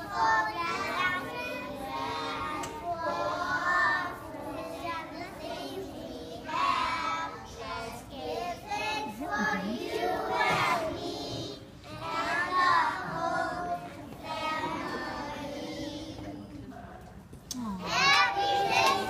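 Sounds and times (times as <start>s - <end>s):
children singing in unison: 0.0s - 16.5s, 17.9s - 19.0s.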